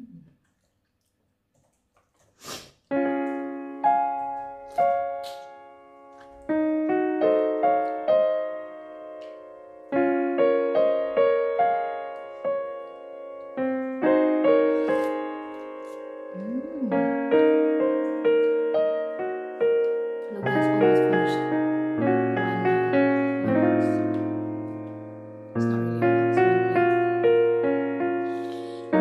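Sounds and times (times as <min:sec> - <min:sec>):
solo piano melody: 0:02.9 - 0:29.0.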